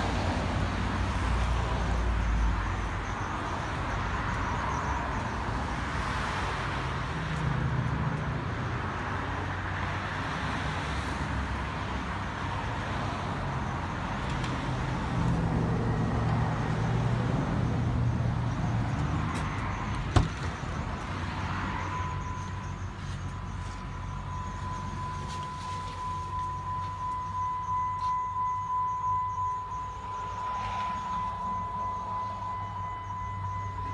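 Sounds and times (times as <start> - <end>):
cars passing: 0.0 - 33.9.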